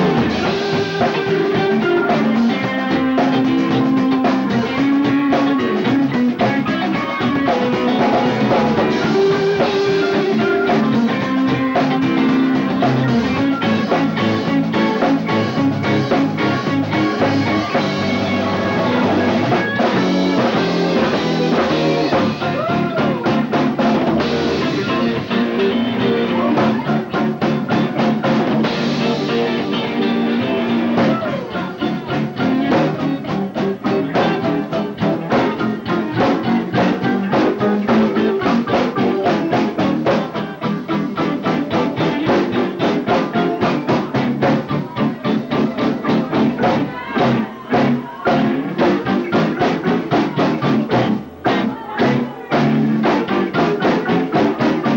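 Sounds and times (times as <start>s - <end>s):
drum kit beat: 0.0s - 54.9s
electric guitar: 0.0s - 54.9s.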